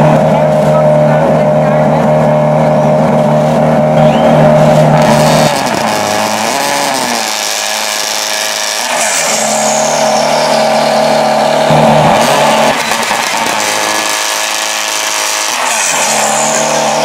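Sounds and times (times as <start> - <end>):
rally car engine idling: 0.0 - 17.0.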